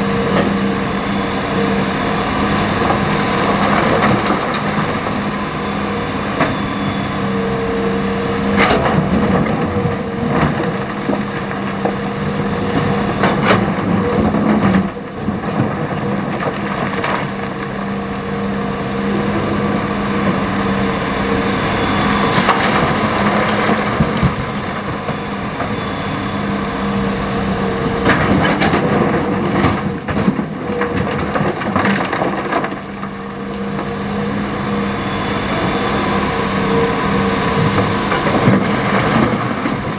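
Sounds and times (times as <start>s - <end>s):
excavator engine and hydraulics humming: 0.0s - 39.9s.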